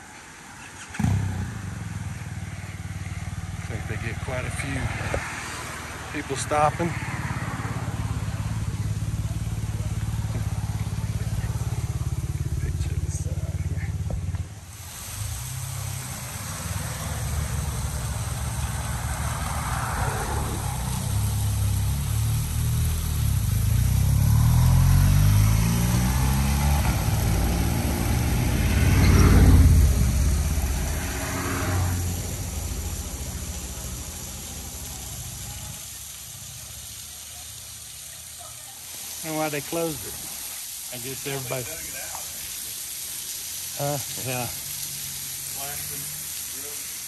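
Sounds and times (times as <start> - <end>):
road traffic passing: 0.0 - 47.0.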